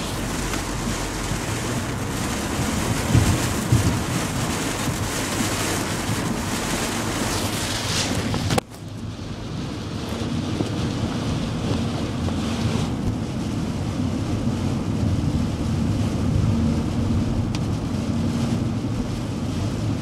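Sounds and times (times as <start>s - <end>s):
road and storm wind noise: 0.0s - 20.0s.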